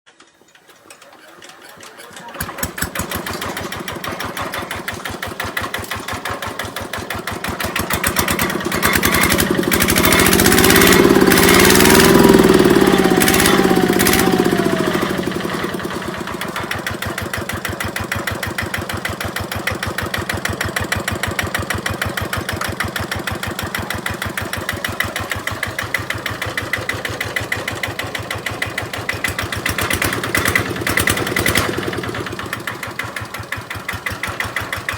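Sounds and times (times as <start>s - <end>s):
diesel engine revving and idling: 2.1s - 34.9s.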